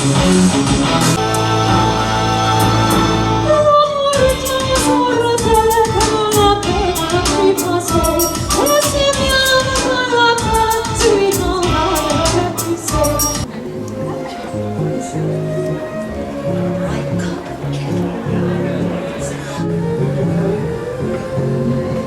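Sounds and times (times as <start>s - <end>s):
music with wavering singing: 0.0s - 22.0s.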